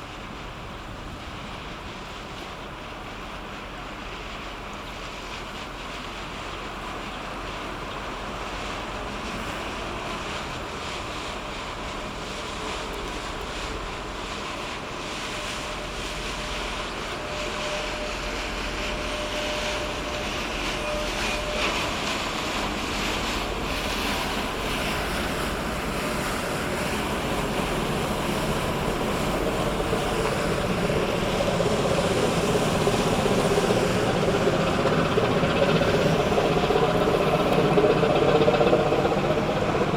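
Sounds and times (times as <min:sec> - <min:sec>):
ship engine drone: 0:00.0 - 0:39.9
wind: 0:00.0 - 0:39.9.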